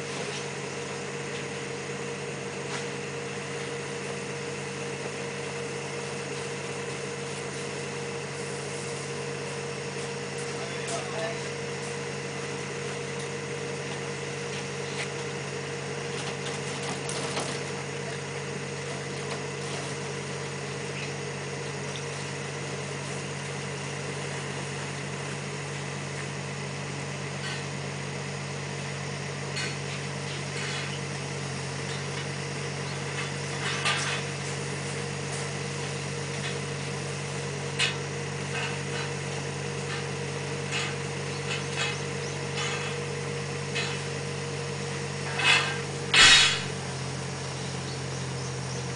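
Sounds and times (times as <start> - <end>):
machinery humming: 0.0 - 48.9.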